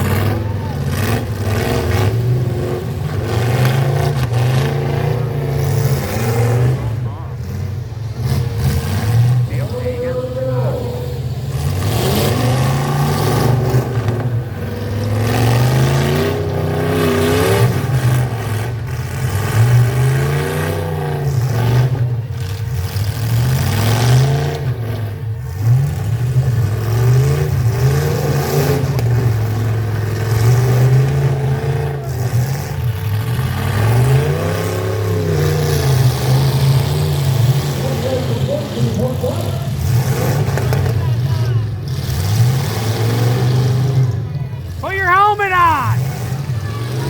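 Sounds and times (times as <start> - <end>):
pickup truck engines revving: 0.0 - 47.0.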